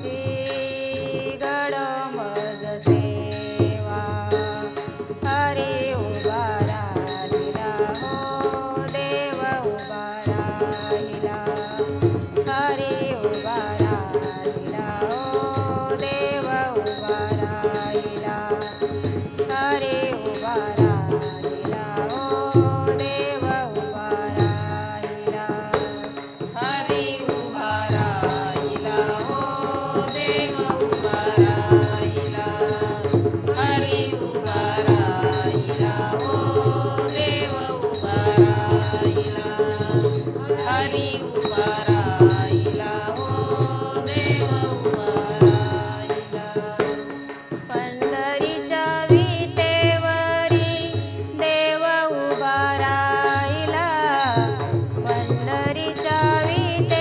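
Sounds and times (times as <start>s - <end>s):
women singing in a group: 0.0s - 57.0s
hand drum rhythm: 2.8s - 51.7s, 52.6s - 57.0s.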